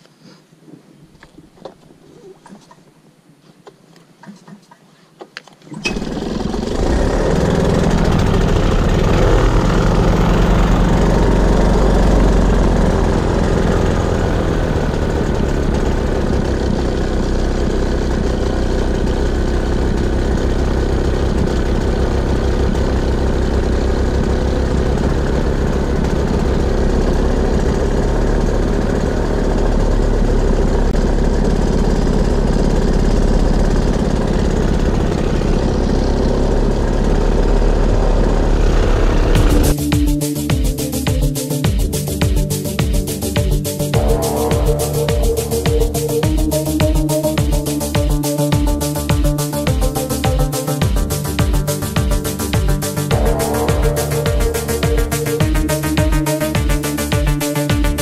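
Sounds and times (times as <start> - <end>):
paramotor engine running: 5.7 - 39.8, 43.5 - 58.0.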